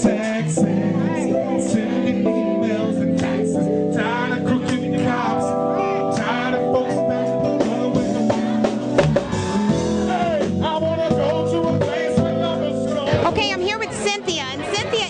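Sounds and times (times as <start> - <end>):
person singing: 0.0 - 14.0
soul band playing: 0.0 - 15.0.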